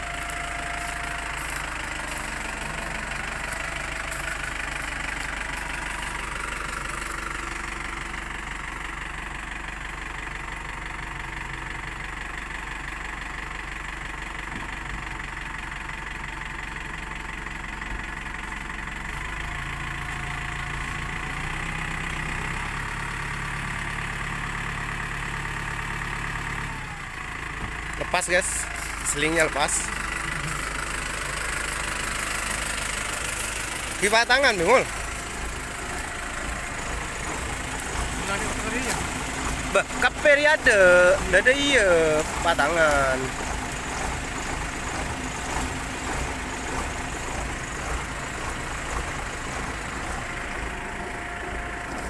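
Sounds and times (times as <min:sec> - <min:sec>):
tractor diesel engine running: 0:00.0 - 0:52.0
truck engine running: 0:00.0 - 0:52.0.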